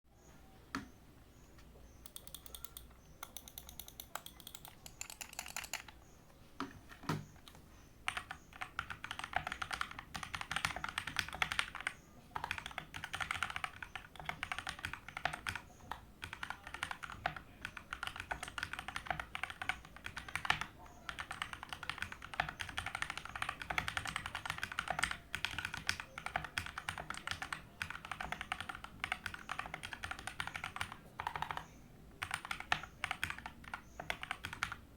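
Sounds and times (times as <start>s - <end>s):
mechanical keyboard typing: 2.0s - 6.1s, 7.0s - 34.9s.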